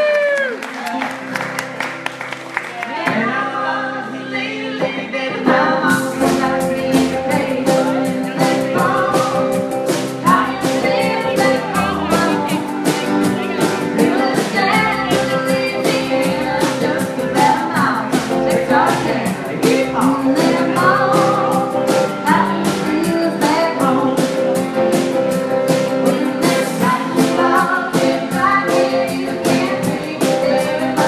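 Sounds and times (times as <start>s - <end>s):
woman singing: 2.9s - 25.1s, 25.7s - 31.0s
drum kit beat: 4.9s - 31.0s.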